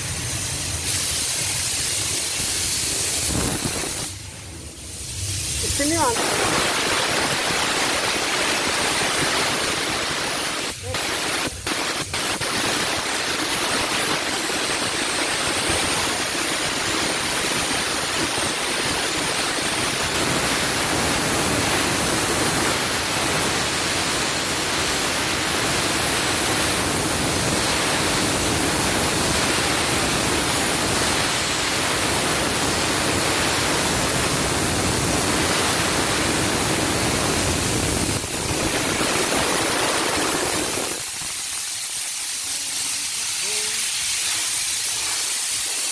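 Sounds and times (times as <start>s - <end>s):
steam wand hissing: 0.0s - 45.9s.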